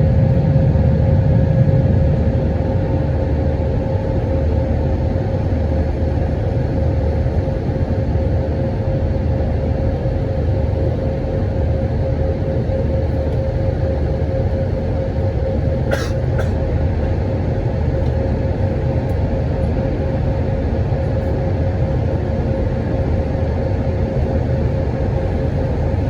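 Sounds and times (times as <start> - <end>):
airplane cabin drone: 0.0 - 26.0
constant hum: 0.0 - 26.0.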